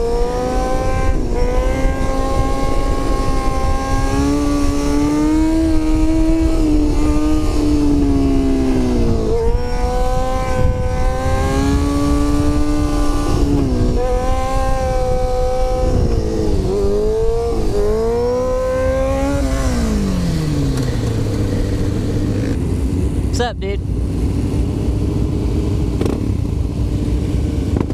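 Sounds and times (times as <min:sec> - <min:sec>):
motorcycle engine revving: 0:00.0 - 0:27.9
wind and road noise: 0:00.0 - 0:27.9.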